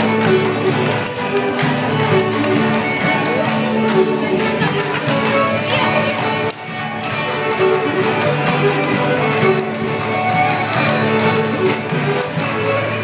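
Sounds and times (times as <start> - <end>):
acoustic guitar accompaniment: 0.0 - 13.0
fiddle jig tune: 0.0 - 13.0
wooden puppet feet clattering: 0.0 - 13.0.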